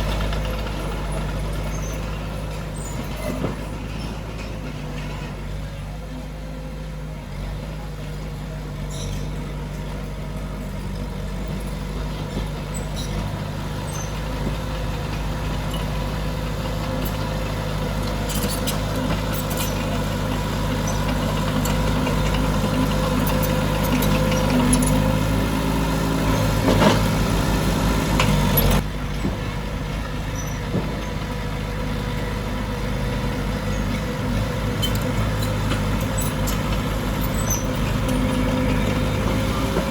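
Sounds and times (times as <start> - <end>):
earthmoving machinery diesel engine: 0.0 - 39.9.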